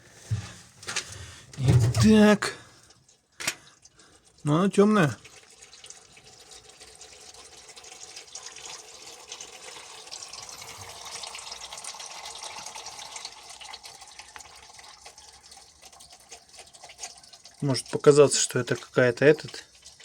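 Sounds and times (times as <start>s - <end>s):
oil pouring into container: 0.3s - 20.0s.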